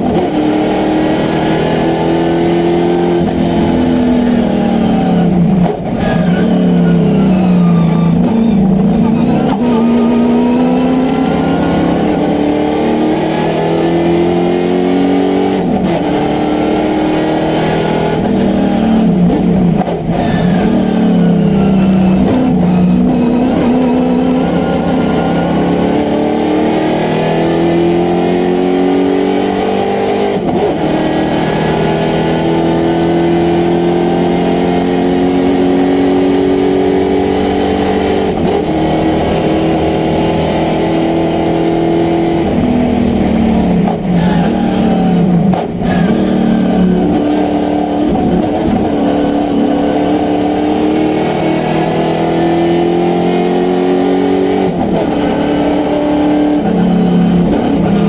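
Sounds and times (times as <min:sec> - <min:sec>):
racing car engine accelerating: 0:00.0 - 0:58.0.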